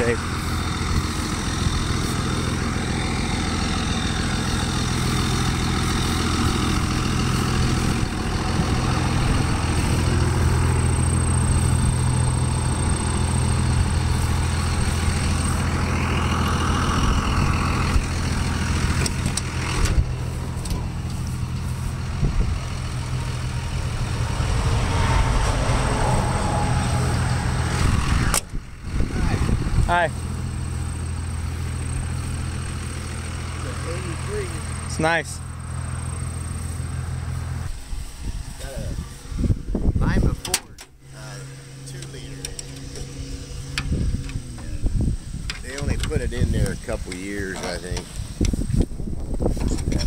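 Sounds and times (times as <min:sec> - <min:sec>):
vehicle engine droning: 0:00.0 - 0:50.0.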